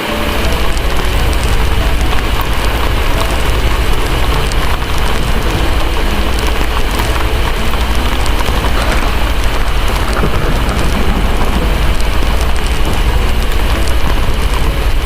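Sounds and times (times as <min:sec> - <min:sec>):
heavy rain: 0:00.0 - 0:15.0
deep low rumble: 0:00.3 - 0:15.0.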